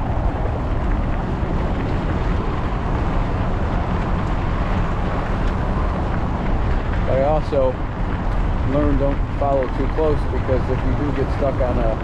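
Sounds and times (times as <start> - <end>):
bike tyres rolling on gravel: 0.0 - 12.0
wind on microphone: 0.0 - 12.0.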